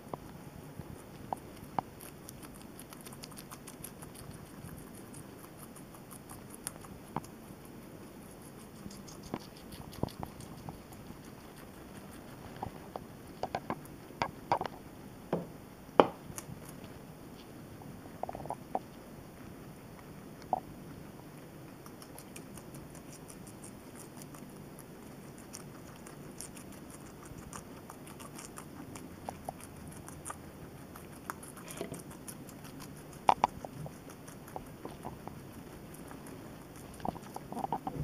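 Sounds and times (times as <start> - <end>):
guinea pigs chewing vegetables: 0.0 - 38.0.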